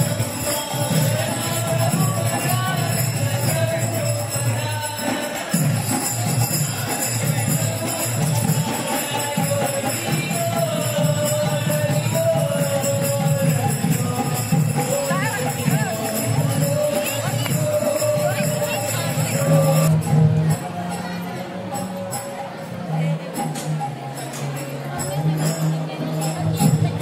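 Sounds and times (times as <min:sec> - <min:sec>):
hand cymbals jingling: 0:00.0 - 0:22.6
held wandering melody: 0:00.0 - 0:27.0.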